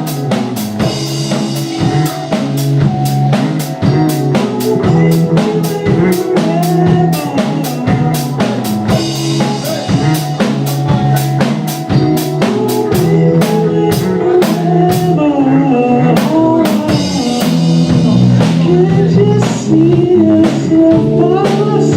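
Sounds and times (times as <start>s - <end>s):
fast drum beat: 0.0s - 15.2s, 16.1s - 21.9s
live band playing: 0.0s - 21.9s.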